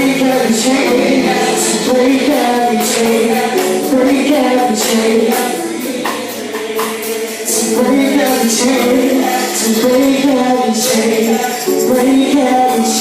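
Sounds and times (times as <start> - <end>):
gospel band and singers: 0.0 - 13.0.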